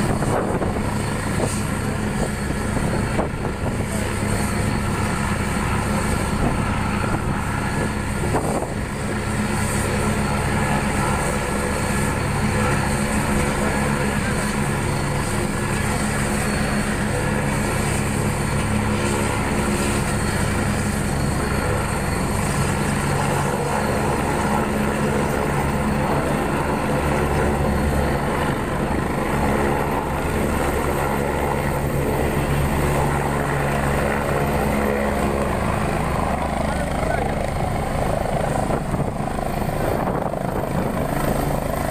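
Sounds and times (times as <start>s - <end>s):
helicopter rotor drone: 0.0s - 41.9s
high turbine whine: 0.0s - 41.9s.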